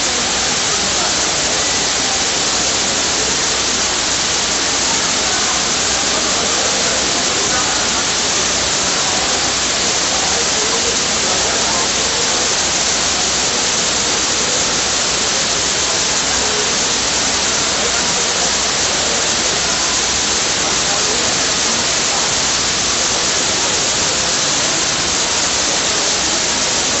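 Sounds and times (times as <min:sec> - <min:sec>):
waterfall rushing and splashing: 0:00.0 - 0:27.0.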